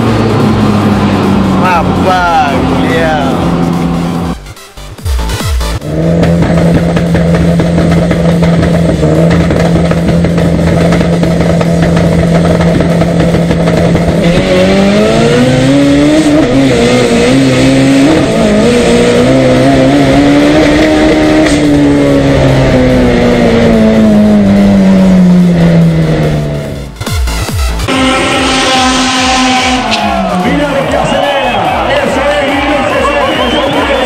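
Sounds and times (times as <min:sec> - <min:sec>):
racing car engine revving: 0:00.0 - 0:34.0.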